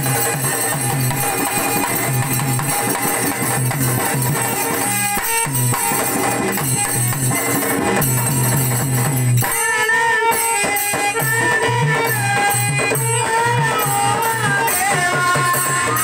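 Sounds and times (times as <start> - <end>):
hand cymbals and jingles: 0.0 - 16.0
hand drum: 0.0 - 16.0.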